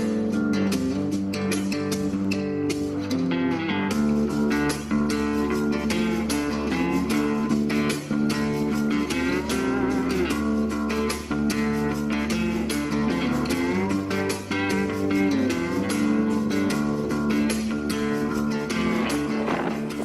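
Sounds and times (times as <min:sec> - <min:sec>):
bluesy guitar music with steady beat: 0:00.0 - 0:20.0.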